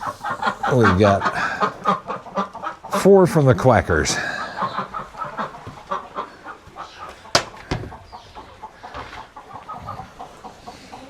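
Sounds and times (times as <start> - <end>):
poultry chattering: 0.0 - 11.0.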